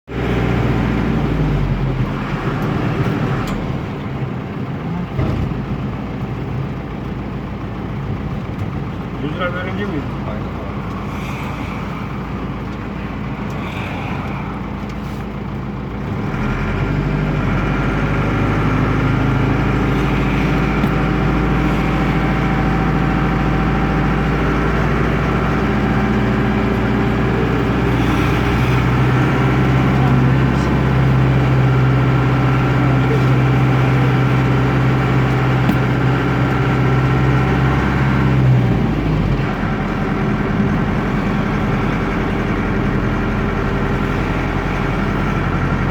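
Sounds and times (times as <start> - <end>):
diesel engine droning under load: 0.1 - 45.9.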